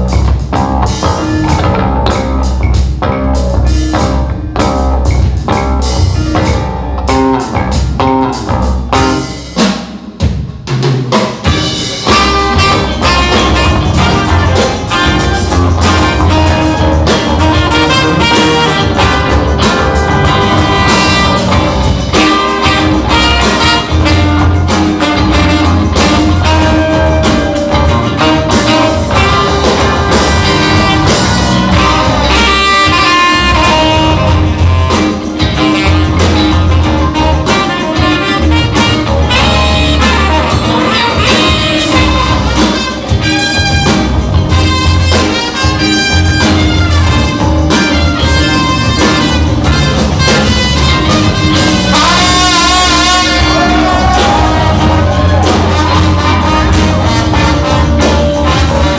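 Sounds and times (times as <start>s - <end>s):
live band playing: 0.0s - 58.9s
horn section: 11.4s - 58.9s.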